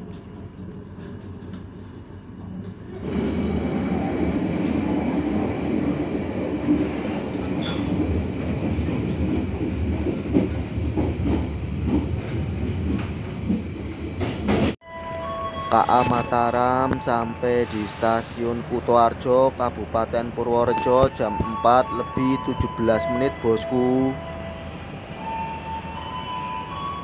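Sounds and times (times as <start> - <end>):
train clatter and knocks: 0.0 - 27.0
train wheels rumbling on rails: 0.0 - 27.0.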